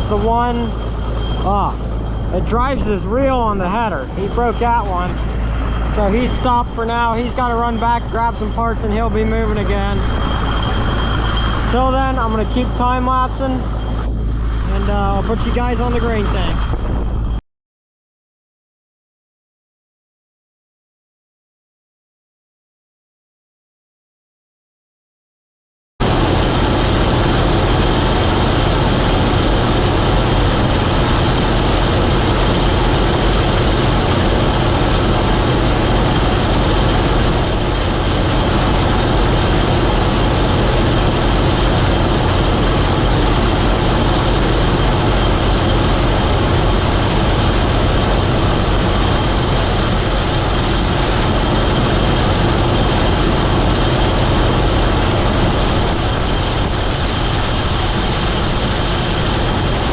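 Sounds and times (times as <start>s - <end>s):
combine harvester drone: 0.0s - 17.4s, 26.0s - 59.9s
steady high whine: 0.0s - 17.4s, 26.0s - 59.9s.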